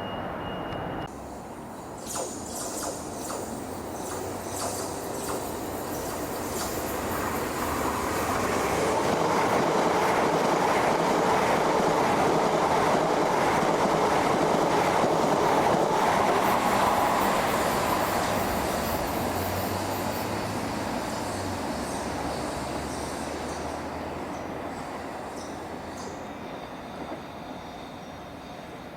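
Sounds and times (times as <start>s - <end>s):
train rumbling past: 0.0s - 28.9s.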